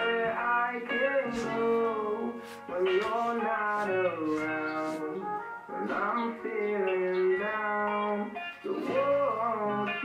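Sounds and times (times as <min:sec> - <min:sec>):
guitar: 0:00.0 - 0:10.0
person singing: 0:00.0 - 0:10.0.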